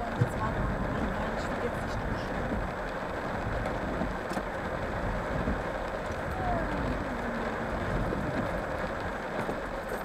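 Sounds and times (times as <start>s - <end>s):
rain on a car: 0.0s - 10.0s
stormy wind: 0.0s - 10.0s.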